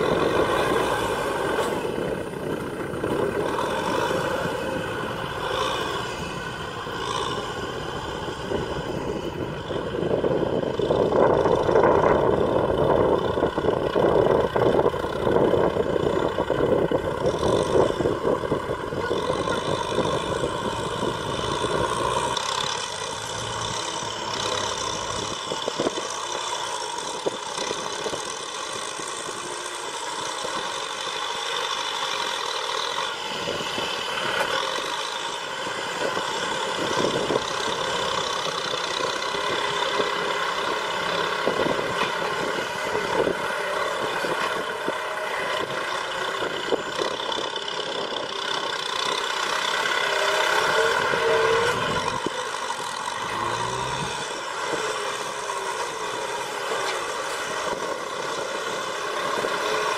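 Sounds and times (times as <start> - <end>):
diesel tractors running under load: 0.0 - 59.9.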